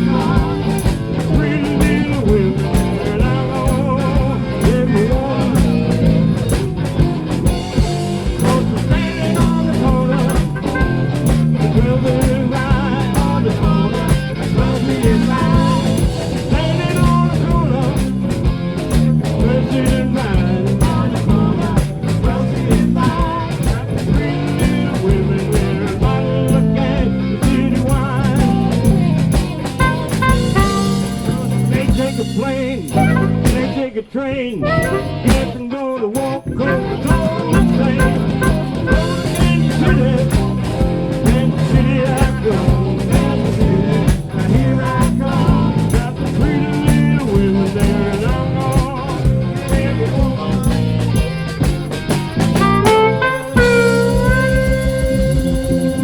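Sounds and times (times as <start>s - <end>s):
person singing: 0.0s - 6.4s, 7.8s - 18.3s, 19.1s - 51.3s, 52.6s - 56.0s
blues rock band playing: 0.0s - 56.0s.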